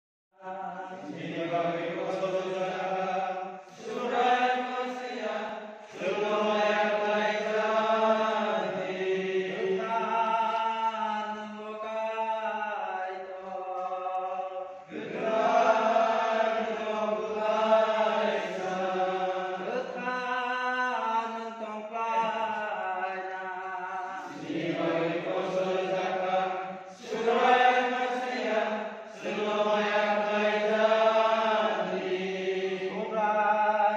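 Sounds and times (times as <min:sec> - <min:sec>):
voices chanting a hymn: 0:00.4 - 0:33.9.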